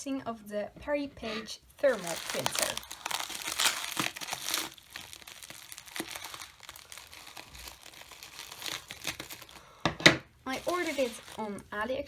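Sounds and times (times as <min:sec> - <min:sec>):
packaging crinkling and rustling: 0:01.2 - 0:11.8.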